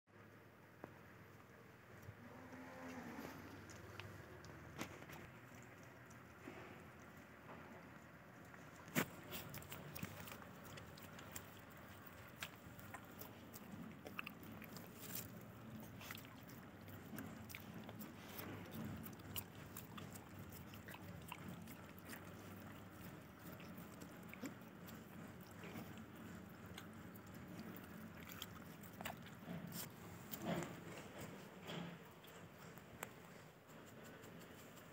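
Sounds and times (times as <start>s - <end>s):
puppies eating: 0.2s - 34.9s.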